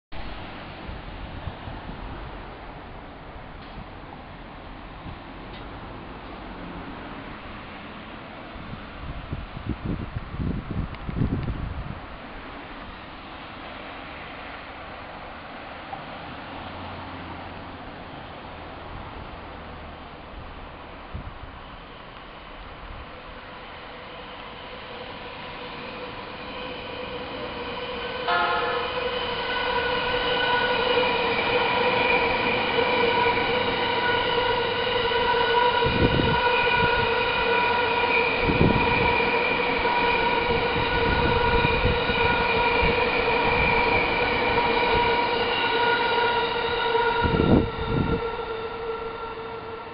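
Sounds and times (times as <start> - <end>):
train wheels rumbling on rail: 0.1 - 49.9.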